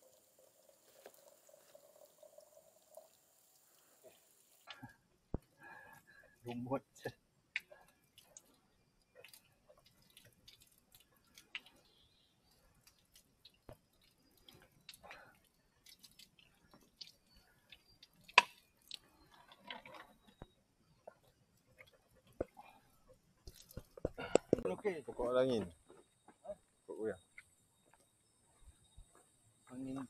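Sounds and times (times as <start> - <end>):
water dripping: 0.0 - 24.7.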